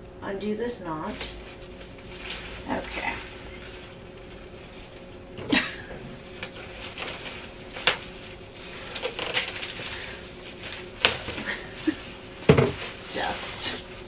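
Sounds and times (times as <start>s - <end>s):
plastic bag crinkling: 0.9s - 14.0s.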